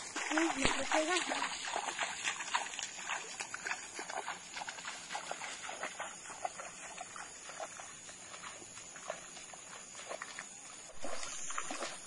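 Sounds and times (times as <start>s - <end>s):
footsteps through wet grass: 0.0s - 12.0s.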